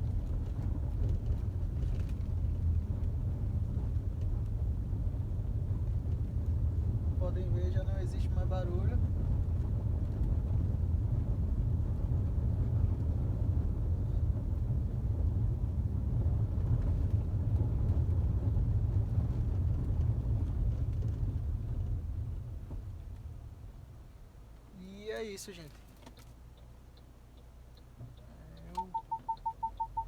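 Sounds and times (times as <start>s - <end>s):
road and tyre rumble in car: 0.0s - 30.0s.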